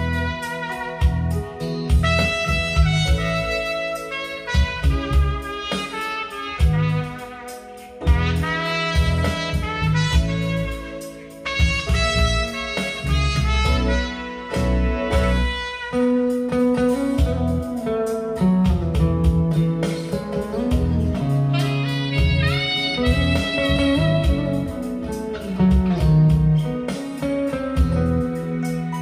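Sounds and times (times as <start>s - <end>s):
guitar music with bass line: 0.0s - 29.0s.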